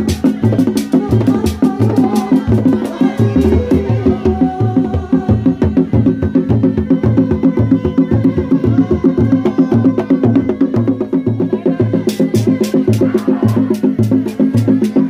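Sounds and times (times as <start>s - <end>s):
hand drums interlocking rhythm: 0.0s - 15.0s
heavy low drum beat: 0.0s - 15.0s.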